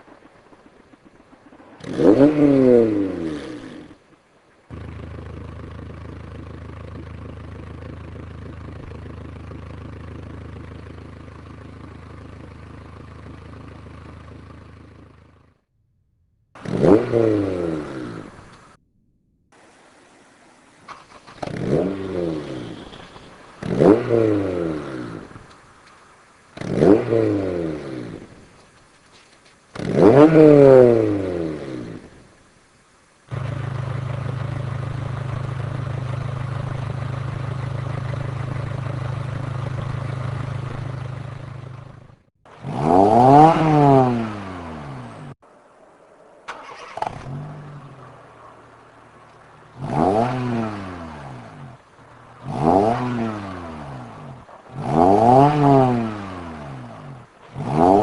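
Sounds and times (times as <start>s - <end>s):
car engine revving: 0.0s - 15.5s, 16.6s - 18.8s, 20.4s - 58.0s
car engine idling: 0.0s - 15.6s, 16.6s - 18.8s, 19.6s - 30.0s, 31.9s - 42.6s, 43.4s - 55.5s.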